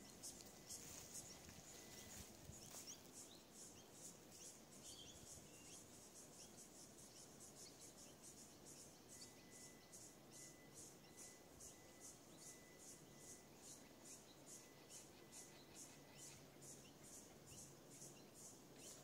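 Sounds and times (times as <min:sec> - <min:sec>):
high-pitched insect chirping: 0:01.8 - 0:18.6.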